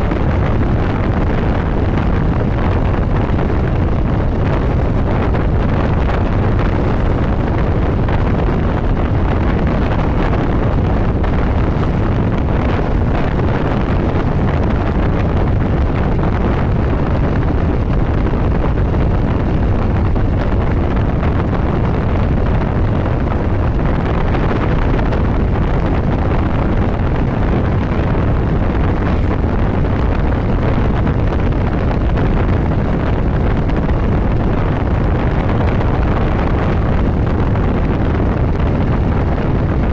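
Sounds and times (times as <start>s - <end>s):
motorcycle running: 0.0s - 39.9s
wind rushing over microphone: 0.0s - 39.9s.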